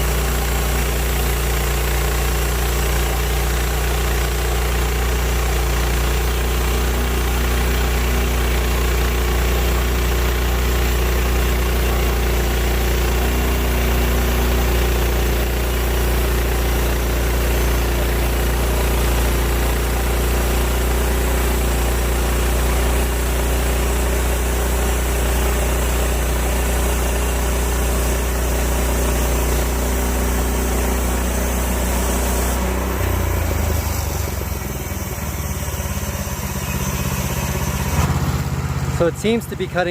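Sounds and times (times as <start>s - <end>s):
bandsaw sawmill cutting log: 0.0s - 39.9s.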